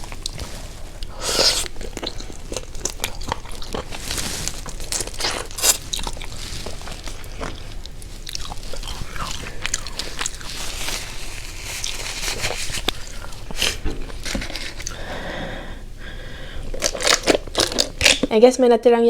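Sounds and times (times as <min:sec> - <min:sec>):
person crunching and chewing: 0:00.0 - 0:15.2, 0:16.6 - 0:18.3.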